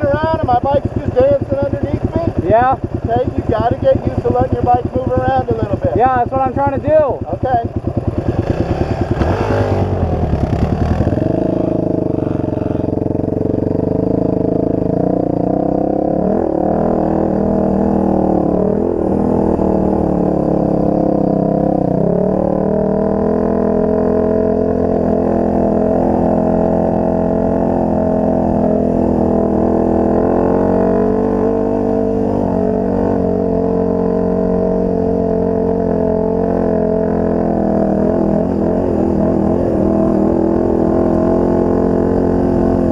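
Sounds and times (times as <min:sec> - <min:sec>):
motorcycle engine droning: 0:00.0 - 0:42.9.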